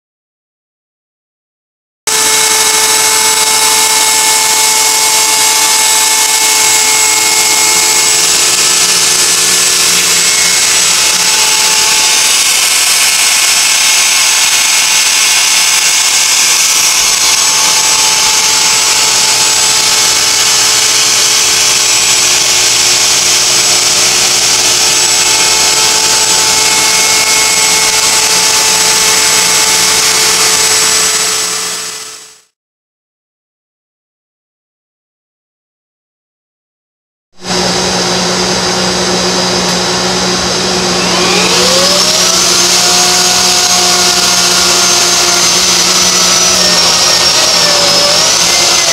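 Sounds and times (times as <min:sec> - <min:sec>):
vacuum dust collector rushing air: 0:02.1 - 0:32.4, 0:37.4 - 0:48.9
wood router whining: 0:02.1 - 0:32.5, 0:37.4 - 0:48.9.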